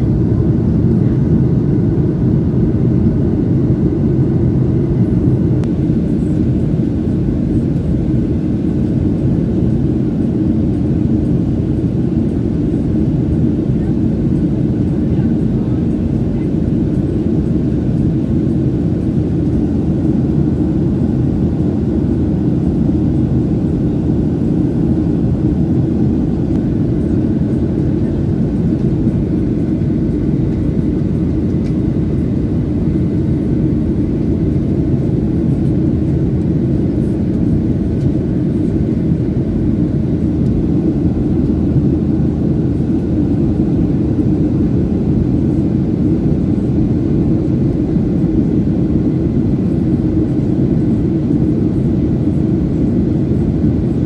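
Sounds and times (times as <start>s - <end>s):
jet cabin engine roar: 0.0s - 54.0s.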